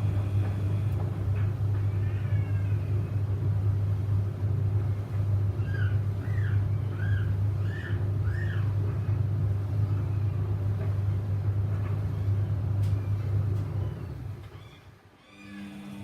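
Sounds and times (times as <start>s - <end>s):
washing machine drum humming: 0.0s - 16.0s.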